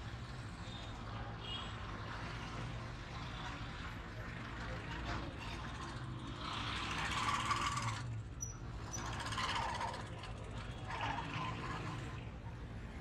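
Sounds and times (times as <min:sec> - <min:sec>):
engines humming: 0:00.0 - 0:13.0
passing vehicles: 0:00.0 - 0:13.0.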